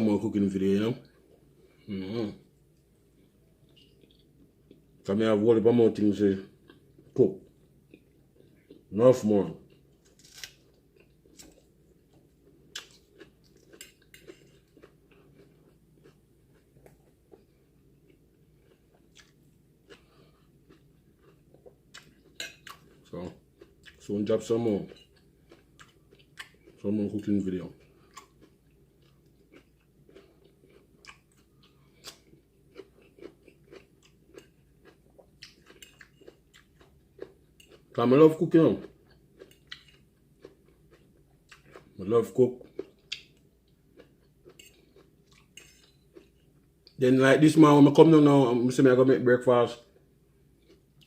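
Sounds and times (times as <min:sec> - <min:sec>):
quiet chewing: 0:01.0 - 0:05.0, 0:06.4 - 0:08.9, 0:09.5 - 0:38.0, 0:38.7 - 0:47.0, 0:49.8 - 0:51.0.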